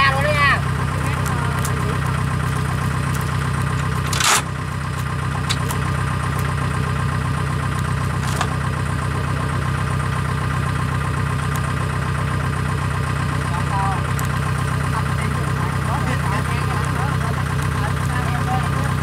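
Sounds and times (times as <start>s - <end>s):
harvester engines idling: 0.0s - 19.0s.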